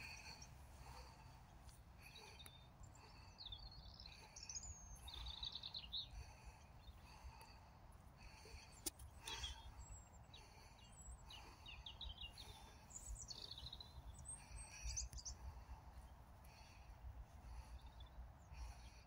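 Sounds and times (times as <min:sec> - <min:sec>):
faint birdsong chirps and trill: 0:00.0 - 0:19.0.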